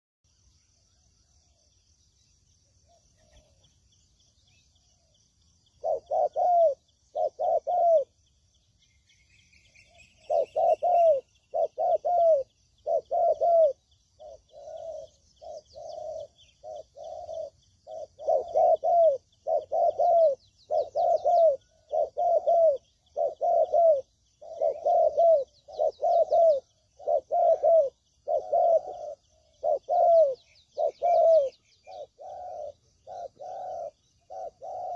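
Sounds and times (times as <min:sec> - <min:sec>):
faint high chirping: 0:00.3 - 0:34.9
dove cooing: 0:02.8 - 0:03.7, 0:05.8 - 0:08.2, 0:09.7 - 0:34.9.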